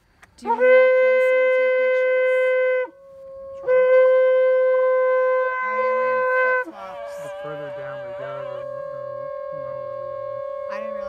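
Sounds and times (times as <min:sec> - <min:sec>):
faint higher horn tone: 0:00.0 - 0:11.0
shofar blasts: 0:00.4 - 0:11.0.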